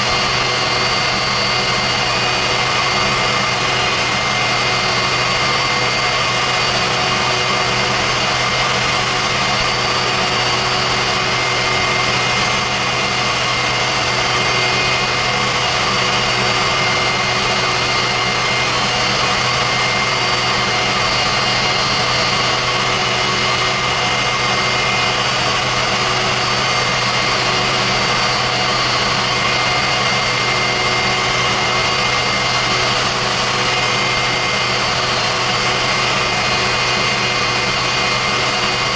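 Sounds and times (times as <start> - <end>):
turbojet engine rushing and whining: 0.0 - 38.9.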